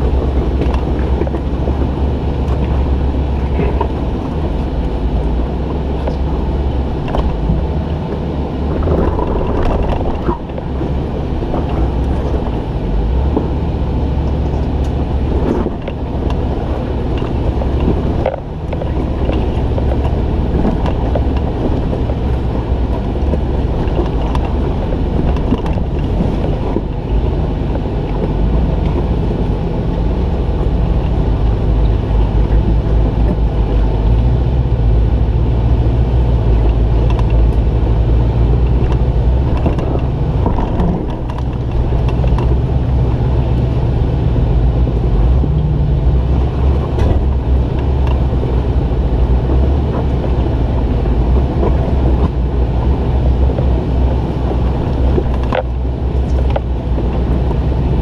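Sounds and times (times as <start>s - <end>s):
car engine running: 0.0s - 58.0s
wind buffeting microphone: 0.0s - 58.0s.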